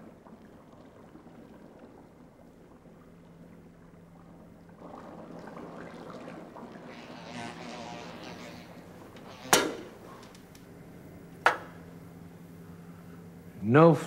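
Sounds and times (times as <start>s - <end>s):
low machinery hum: 0.0s - 14.0s.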